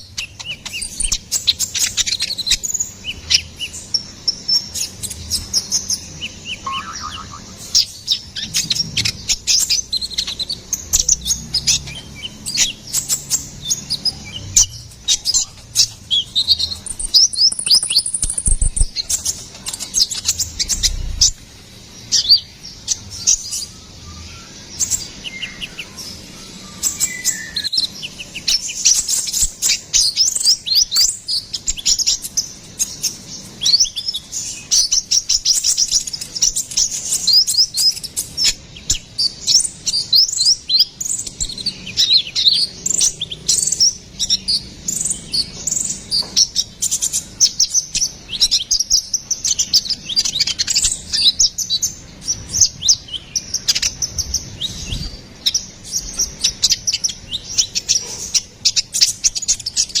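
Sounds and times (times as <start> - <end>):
sunbird chirps and trills: 0.0 - 60.0.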